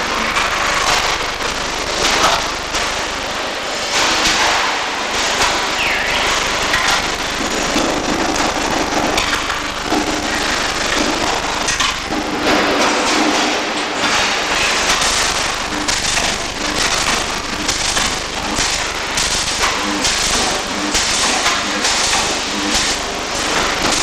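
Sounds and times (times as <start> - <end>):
electric arc welding crackle: 0.0 - 24.0.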